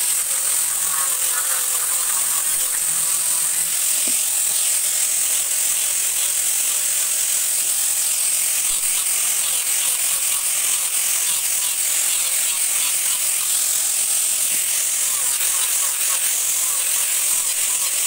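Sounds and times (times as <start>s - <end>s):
angle grinder sanding wood: 0.0s - 18.0s.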